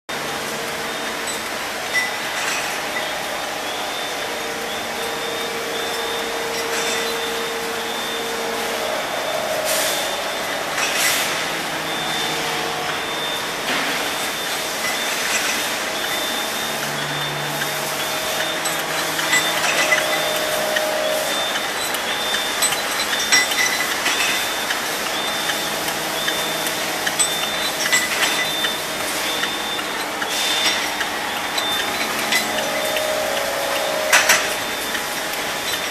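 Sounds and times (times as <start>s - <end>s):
production line machinery running: 0.1s - 35.9s
high-pitched beep: 0.9s - 35.9s.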